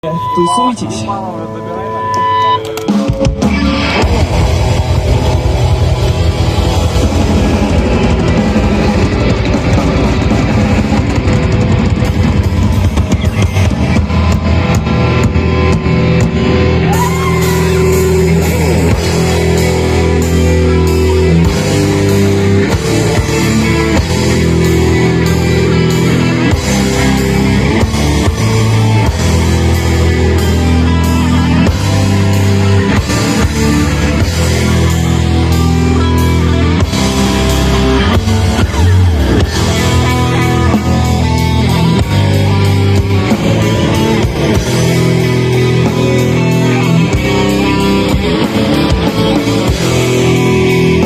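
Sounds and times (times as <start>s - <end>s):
distorted electric guitars: 0.0s - 51.0s
fast drumming on drum kit: 2.9s - 51.0s.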